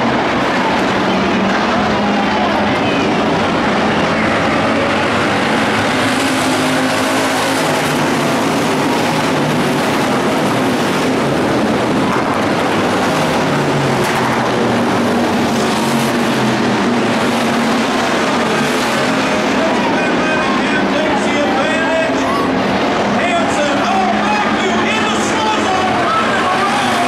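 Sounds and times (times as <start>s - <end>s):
many race car engines: 0.0s - 27.0s.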